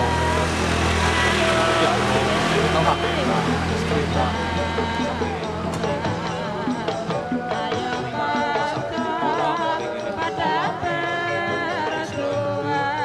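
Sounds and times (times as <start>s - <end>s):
person singing ornamented melody: 0.0s - 13.0s
steady percussion: 0.0s - 13.0s.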